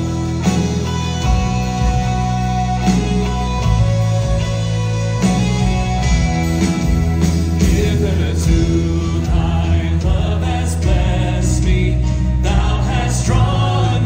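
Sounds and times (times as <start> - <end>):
acoustic guitar: 0.0 - 14.0
steady bass: 0.0 - 14.0.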